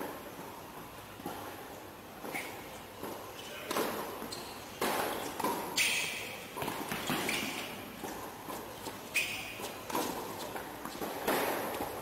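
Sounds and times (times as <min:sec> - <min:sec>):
rackets striking tennis ball: 0:02.2 - 0:12.0.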